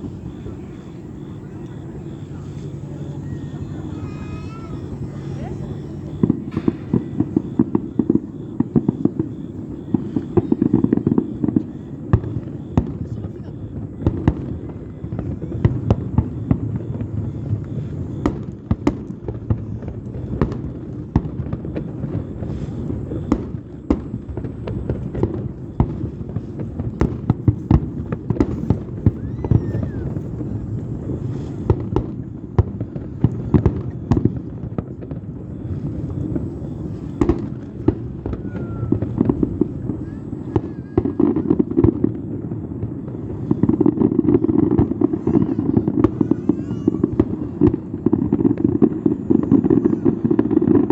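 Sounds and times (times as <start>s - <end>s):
continuous low rumble: 0.0s - 50.9s
fireworks bangs and crackles: 0.0s - 50.9s.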